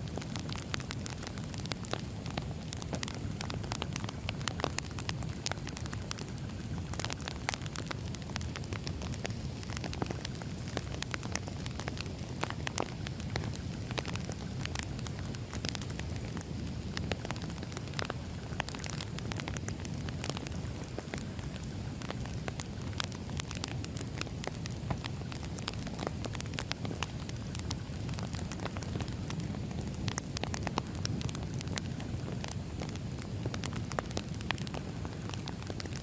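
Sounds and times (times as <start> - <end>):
fire popping and snapping: 0.0 - 36.0
low rumble of flames: 0.0 - 36.0.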